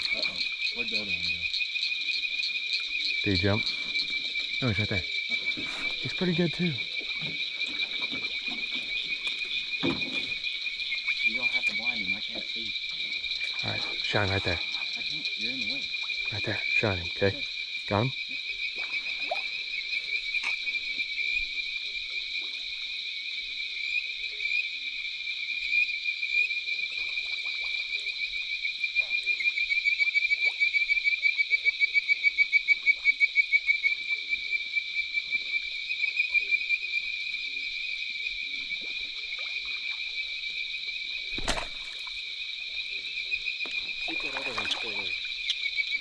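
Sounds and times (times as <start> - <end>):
chorus of frogs trilling: 0.0 - 46.0.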